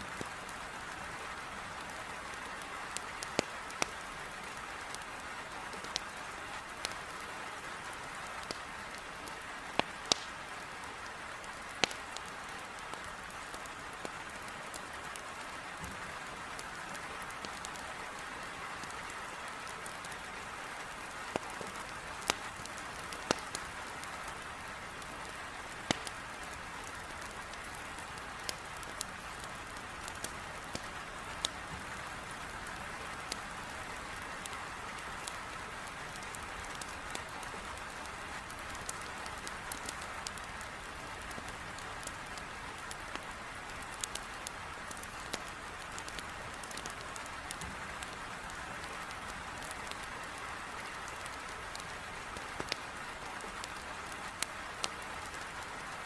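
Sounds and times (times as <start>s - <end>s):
heavy rain against a window: 0.0s - 56.0s
wood fire crackling: 0.0s - 56.0s.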